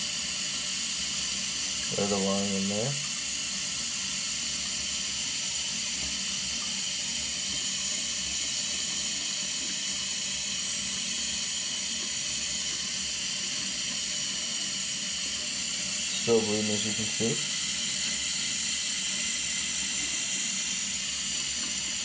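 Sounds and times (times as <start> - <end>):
tap water running into a sink: 0.0 - 22.0.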